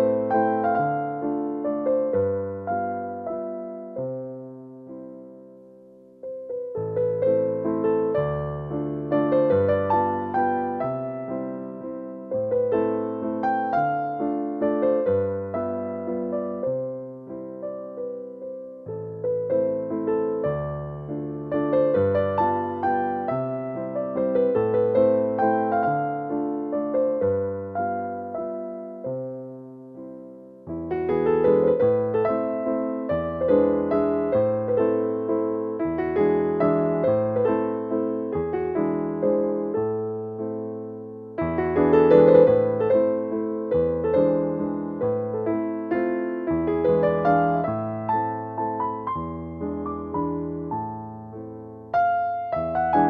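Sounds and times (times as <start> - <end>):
gentle piano tune: 0.0 - 53.0.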